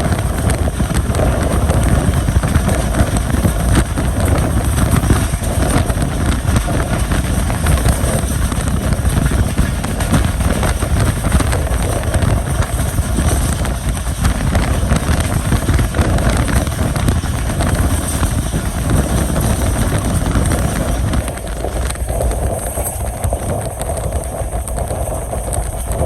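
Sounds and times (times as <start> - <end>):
train wheels rumbling on rail: 0.0 - 26.0
wind noise: 0.0 - 26.0.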